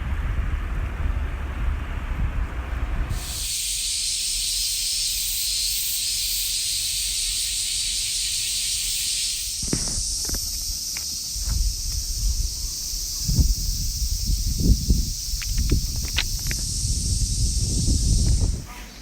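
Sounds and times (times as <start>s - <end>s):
high-pitched hiss: 3.1s - 19.0s.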